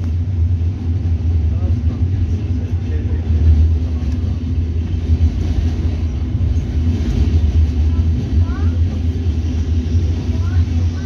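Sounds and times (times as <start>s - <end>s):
tram rumbling on track: 0.0s - 11.0s.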